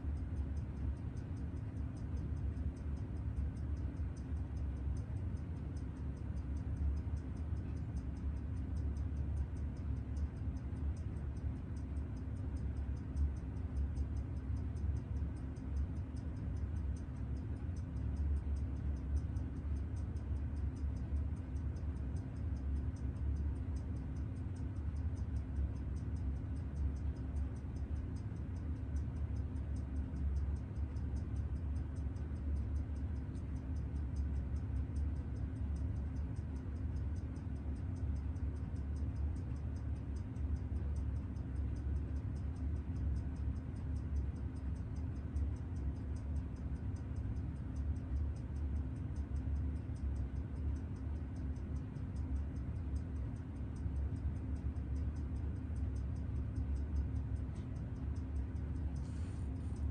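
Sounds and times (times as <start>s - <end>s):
fast regular ticking: 0.0s - 59.9s
low electrical hum: 0.0s - 59.9s.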